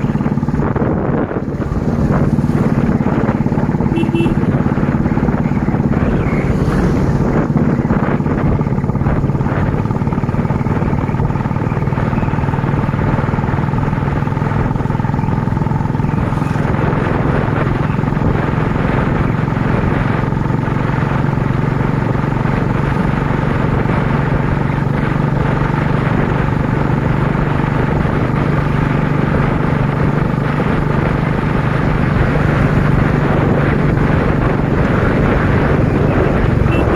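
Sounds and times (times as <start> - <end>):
motorcycle engine cruising: 0.0 - 36.9.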